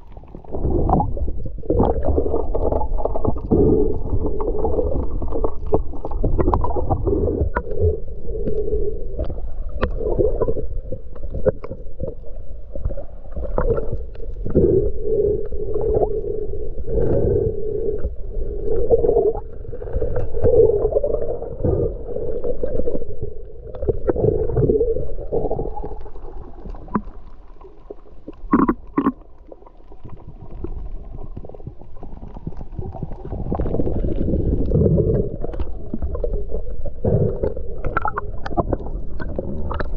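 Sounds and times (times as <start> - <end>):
muffled underwater rumbling: 0.0 - 39.9.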